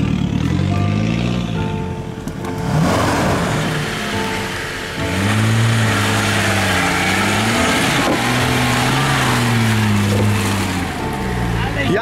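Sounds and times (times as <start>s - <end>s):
engine working under load: 0.0s - 12.0s.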